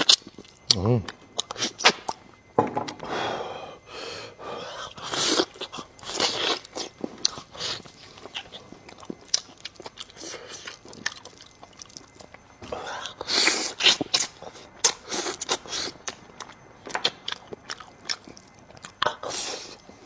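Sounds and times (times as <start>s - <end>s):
chewing meat: 0.0s - 2.5s, 4.9s - 20.0s.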